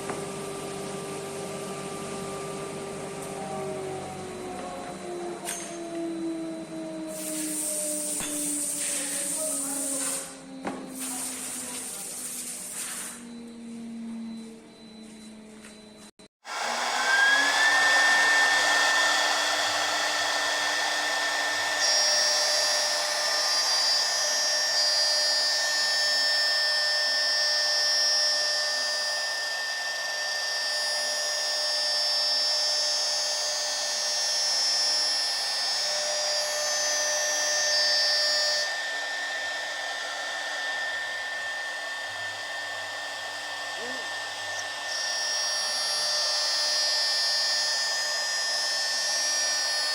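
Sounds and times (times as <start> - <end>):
electric motor whining: 0.0 - 14.7, 16.5 - 49.9.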